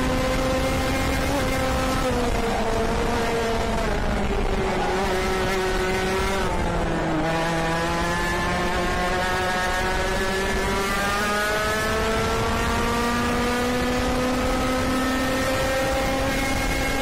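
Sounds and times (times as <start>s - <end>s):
kart engine at full throttle: 0.0s - 17.0s.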